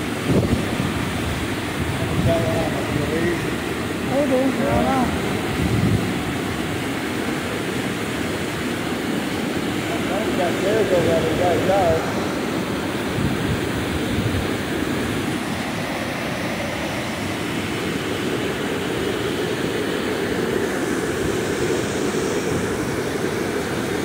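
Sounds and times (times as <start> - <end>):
river water rushing over rapids: 0.0 - 24.0.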